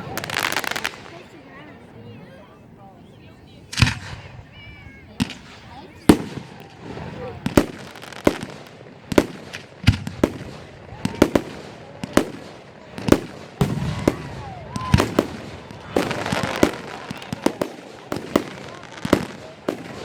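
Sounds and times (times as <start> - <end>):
fireworks banging: 0.0 - 1.9, 3.6 - 20.0.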